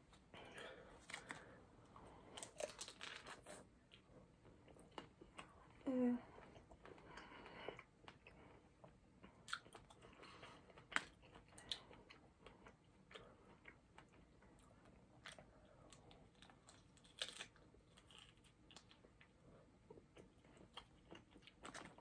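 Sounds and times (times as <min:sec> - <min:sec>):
soft chewing: 0:00.0 - 0:22.0.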